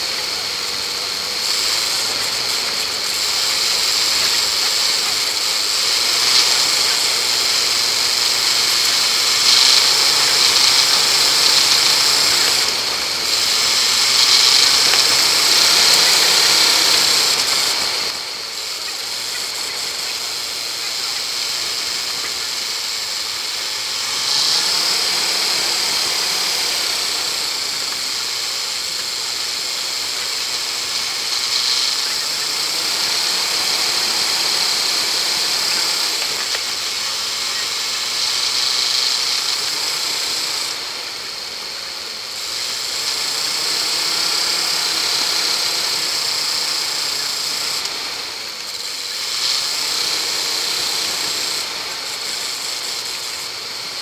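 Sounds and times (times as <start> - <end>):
steady hiss: 0.0 - 54.0
vehicle engine revving: 0.0 - 54.0.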